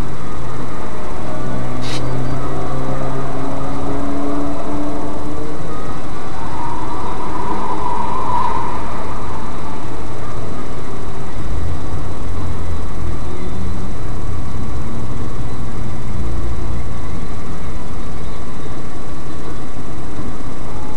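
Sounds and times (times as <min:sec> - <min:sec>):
car engine idling inside cabin: 0:00.0 - 0:06.4, 0:08.5 - 0:20.9.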